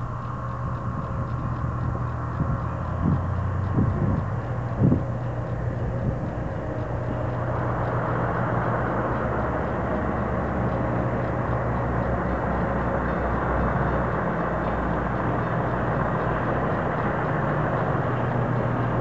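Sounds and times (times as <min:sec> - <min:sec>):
refrigeration unit drone: 0:00.0 - 0:19.0
truck diesel engine running: 0:00.0 - 0:19.0.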